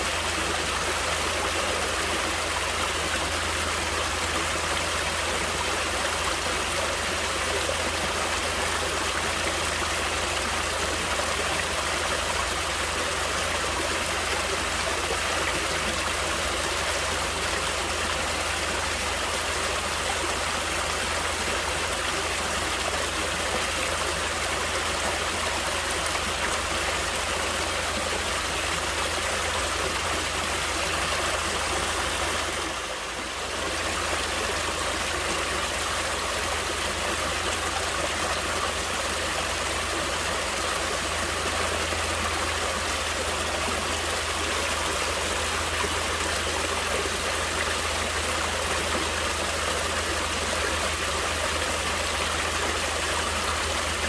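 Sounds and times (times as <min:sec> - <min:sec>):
running water flowing: 0:00.0 - 0:54.0.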